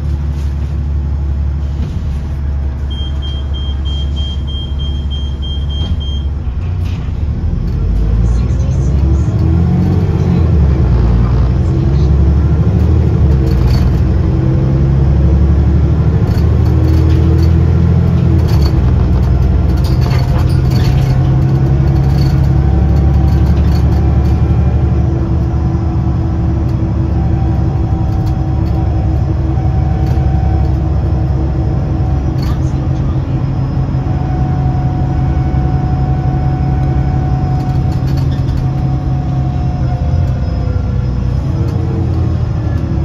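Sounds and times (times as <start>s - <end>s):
bus diesel engine drone: 0.0s - 43.0s.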